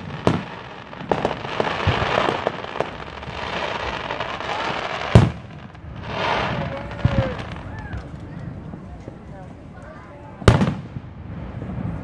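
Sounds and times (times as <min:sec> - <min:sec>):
firework crackling and pops: 0:00.0 - 0:12.0.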